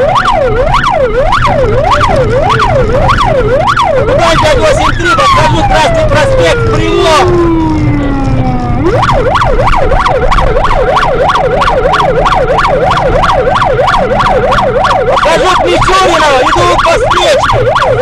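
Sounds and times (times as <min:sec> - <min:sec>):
car driving at speed: 0:00.0 - 0:18.0
police siren yelping: 0:00.0 - 0:18.0.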